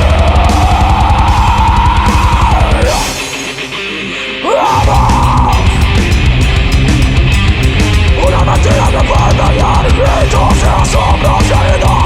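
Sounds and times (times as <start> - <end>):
fast dense drumming: 0.0 - 3.5, 4.7 - 12.0
heavy metal band playing live: 0.0 - 12.0.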